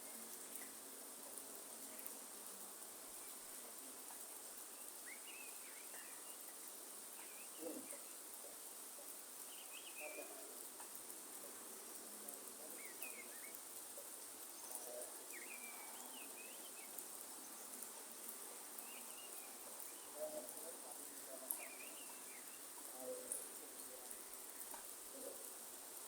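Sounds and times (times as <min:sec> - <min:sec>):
faint drips: 0:00.0 - 0:26.0
light rain hiss: 0:00.0 - 0:26.0
birds chirping: 0:03.1 - 0:25.6.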